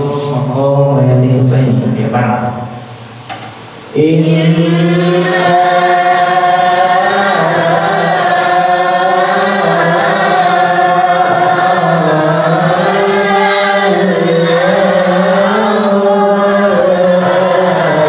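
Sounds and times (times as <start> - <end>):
man chanting through loudspeaker: 0.0 - 3.1, 3.9 - 18.0.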